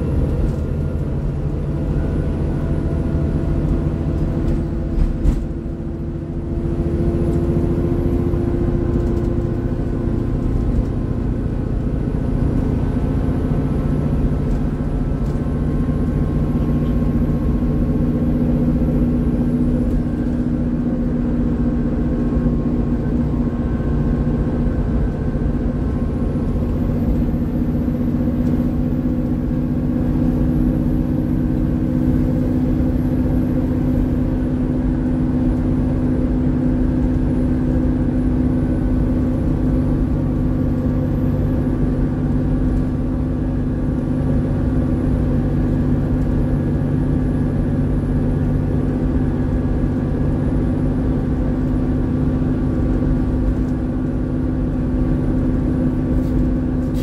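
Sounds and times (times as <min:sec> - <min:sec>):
bus engine running: 0:00.0 - 0:57.0
road noise rumble: 0:00.0 - 0:57.0.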